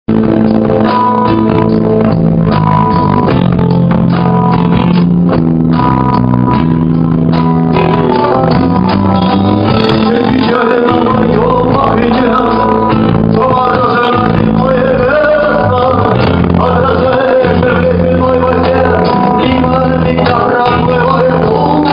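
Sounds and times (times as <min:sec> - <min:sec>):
live band playing: 0:00.1 - 0:21.9.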